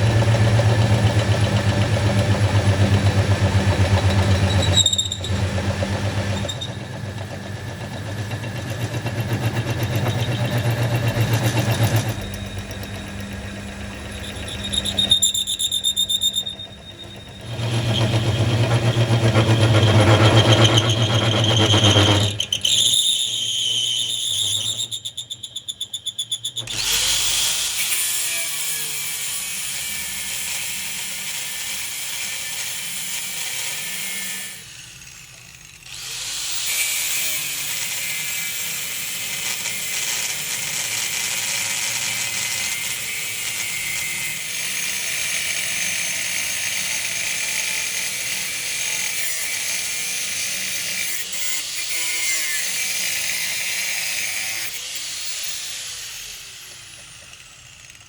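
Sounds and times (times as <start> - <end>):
power tool working metal: 0.0 - 58.0.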